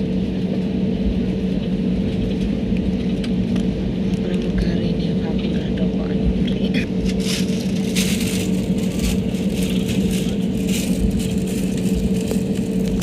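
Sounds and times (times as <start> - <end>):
airliner engine hum: 0.0 - 13.0.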